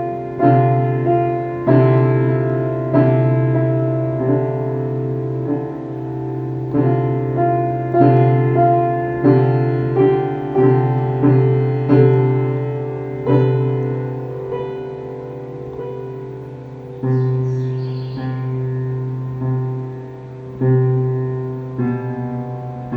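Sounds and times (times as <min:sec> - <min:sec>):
slow gentle piano music: 0:00.0 - 0:22.9.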